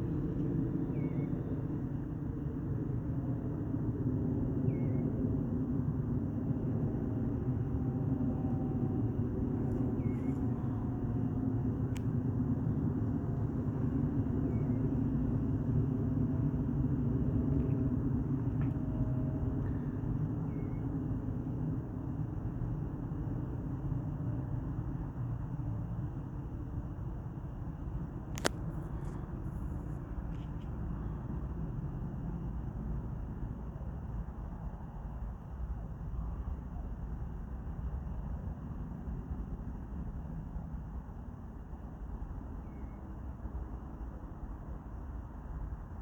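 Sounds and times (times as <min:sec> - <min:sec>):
faint whine: 0:00.0 - 0:46.0
low engine rumble: 0:00.0 - 0:46.0.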